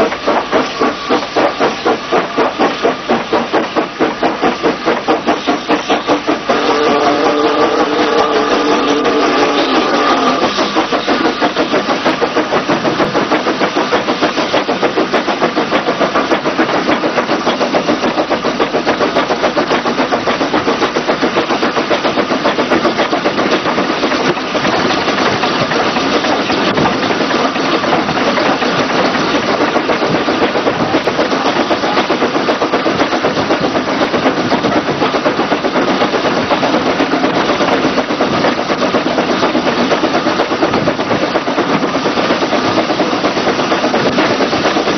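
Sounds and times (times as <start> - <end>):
steam locomotive exhaust beats: 0.0 - 44.9
wheel-on-rail clatter: 0.0 - 44.9.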